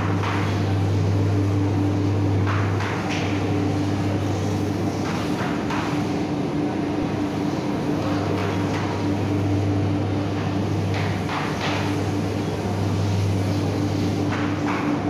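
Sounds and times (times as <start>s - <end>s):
electric machinery humming: 0.0s - 15.0s.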